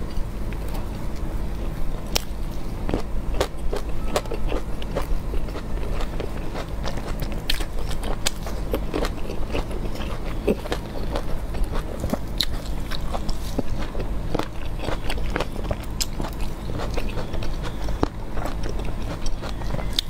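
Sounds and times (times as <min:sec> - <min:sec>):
low background hum: 0:00.0 - 0:20.0
wet chewing and mouth clicks: 0:02.0 - 0:20.0.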